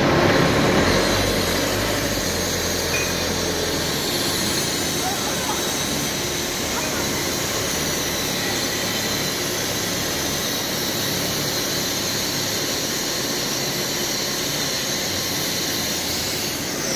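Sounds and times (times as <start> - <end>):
factory machinery running: 0.0 - 16.9
high steady whine: 0.0 - 16.9.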